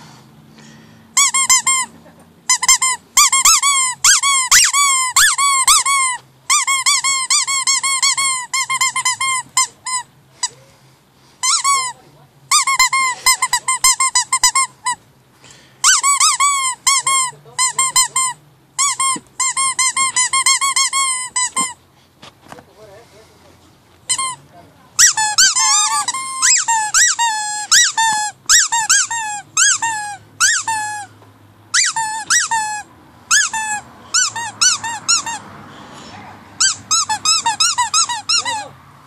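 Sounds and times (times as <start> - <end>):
squeaky dog toy squeaking: 1.2 - 10.6, 11.4 - 15.0, 15.8 - 21.8, 24.0 - 38.8.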